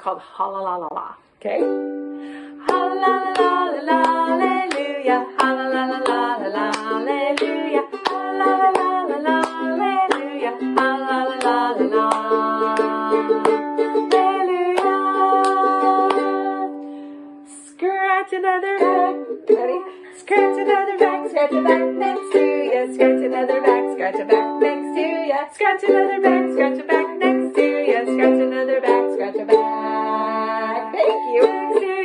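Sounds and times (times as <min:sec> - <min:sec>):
ukulele strummed and plucked: 0:01.5 - 0:32.0.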